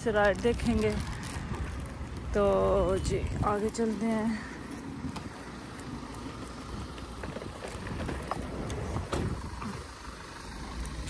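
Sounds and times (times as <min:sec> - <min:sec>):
pushchair wheels rolling on bricks: 0:00.0 - 0:11.0.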